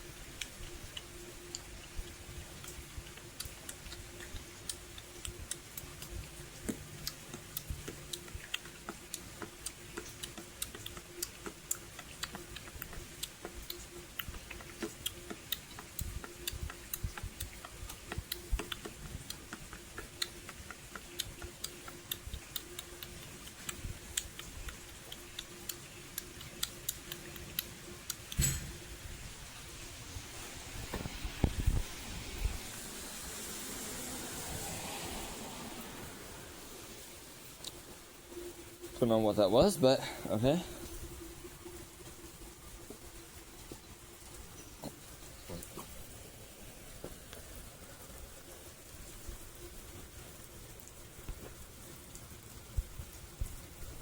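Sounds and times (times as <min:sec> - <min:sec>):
faint steady hum: 0:00.0 - 0:54.0
raindrops ticking on hard surface: 0:00.0 - 0:54.0.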